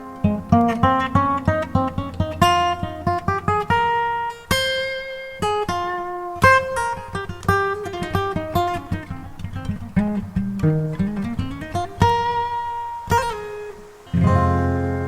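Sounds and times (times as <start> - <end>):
acoustic guitar plucking: 0.0 - 15.0.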